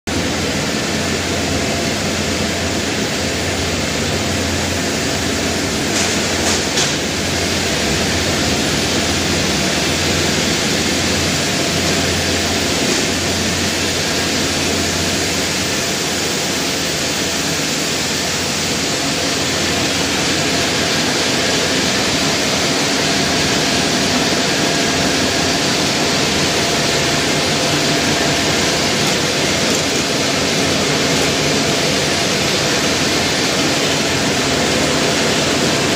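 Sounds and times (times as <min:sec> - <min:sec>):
machinery hum: 0:00.1 - 0:35.9.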